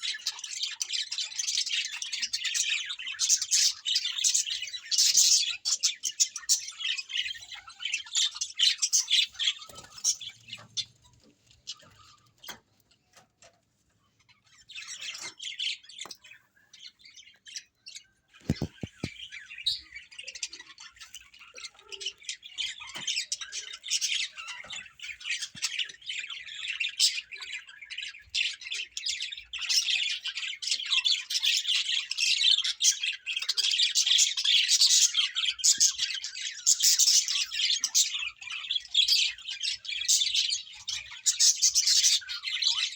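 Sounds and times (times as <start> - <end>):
flock of birds chirping: 0.0 - 42.9.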